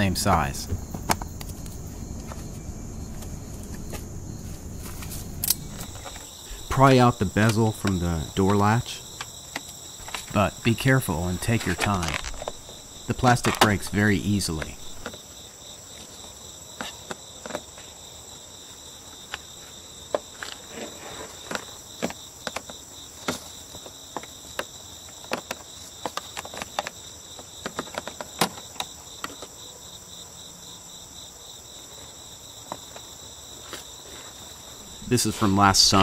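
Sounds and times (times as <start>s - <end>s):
insect chirring: 0.0s - 36.0s.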